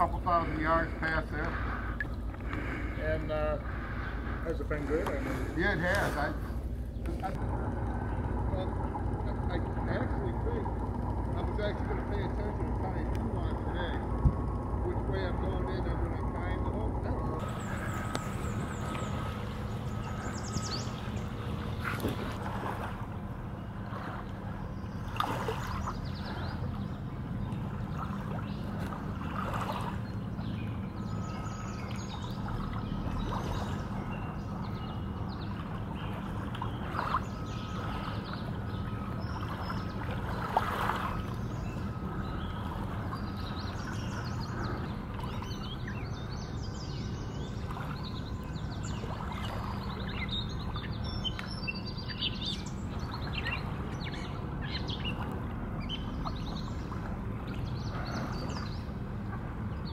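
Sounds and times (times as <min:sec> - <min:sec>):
low rumble: 0:00.0 - 0:59.9
bird chirps: 0:07.9 - 0:22.3, 0:23.5 - 0:59.9.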